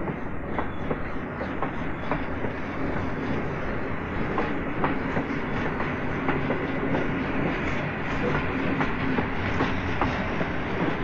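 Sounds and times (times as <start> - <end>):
steam train rumbling with clicks: 0.0 - 11.0.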